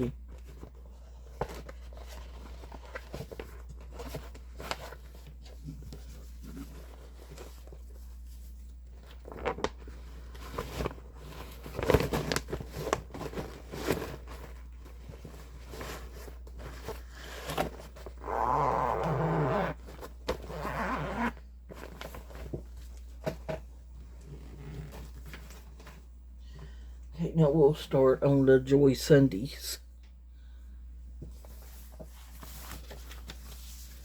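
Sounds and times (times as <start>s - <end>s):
fabric and packaging rustling: 0.2s - 26.9s, 31.2s - 34.0s.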